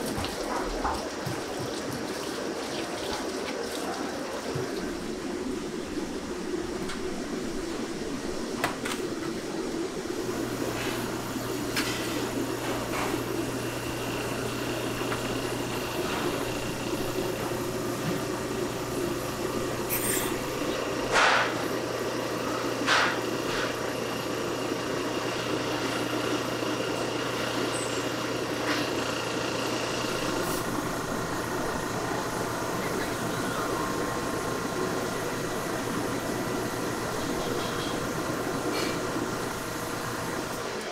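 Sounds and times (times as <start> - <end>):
kitchen equipment drone: 3.9 - 40.9.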